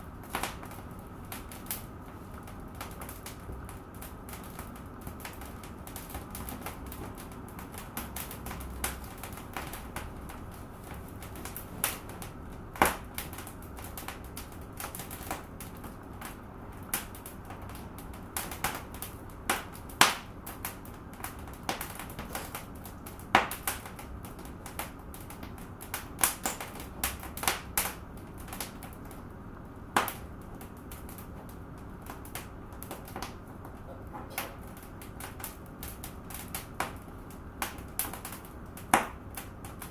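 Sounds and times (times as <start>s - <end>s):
fire hissing: 0.0s - 39.9s
fire popping: 0.0s - 39.9s
wood fire crackling: 0.0s - 39.9s.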